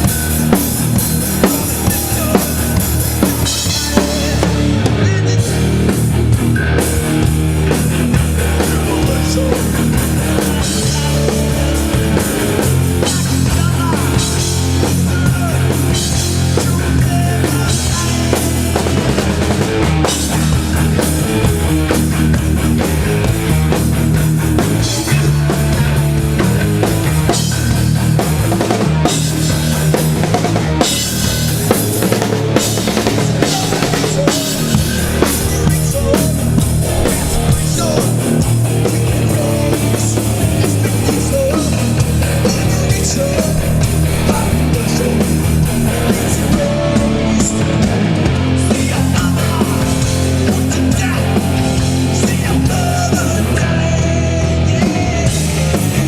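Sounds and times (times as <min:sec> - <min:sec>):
bass guitar: 0:00.0 - 0:56.0
drum kit pounding: 0:00.0 - 0:56.0
electric guitar: 0:00.0 - 0:56.0.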